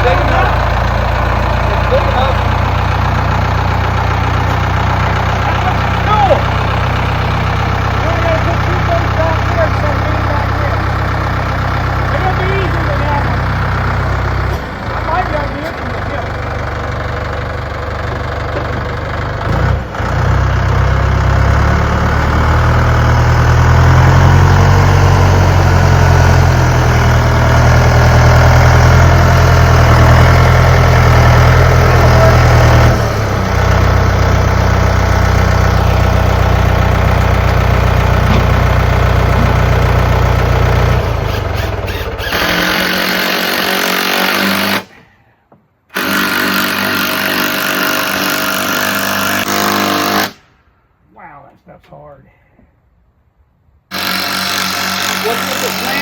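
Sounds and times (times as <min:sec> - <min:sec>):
engine humming steadily: 0:00.0 - 0:45.0, 0:53.9 - 0:56.0.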